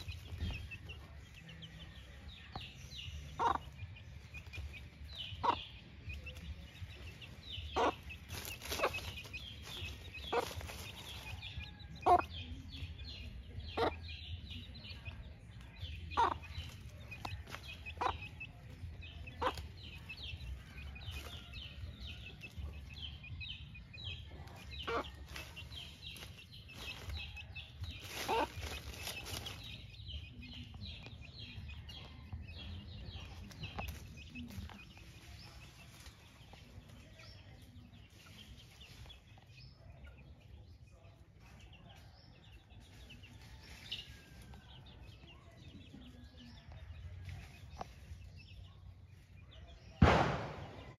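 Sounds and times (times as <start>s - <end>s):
hen clucking: 0.0s - 48.7s
chicks peeping: 0.0s - 50.9s.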